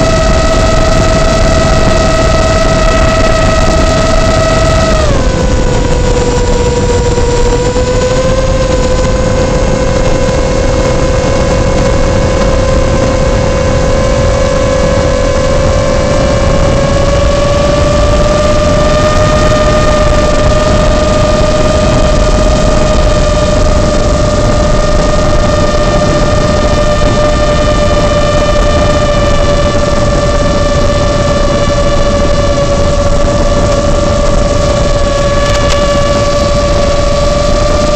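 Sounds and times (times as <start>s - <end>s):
quadcopter motors humming: 0.0s - 37.9s
rushing noise: 0.0s - 37.9s.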